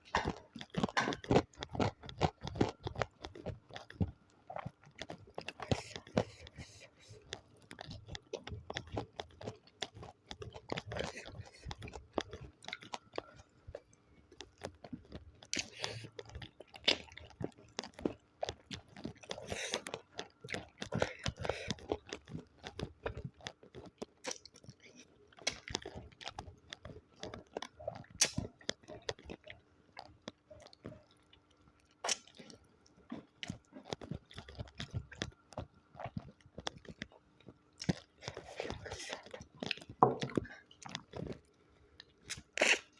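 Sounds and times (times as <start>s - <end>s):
person chewing and crunching food: 0.0s - 42.9s
wet mouth sounds: 0.2s - 42.9s.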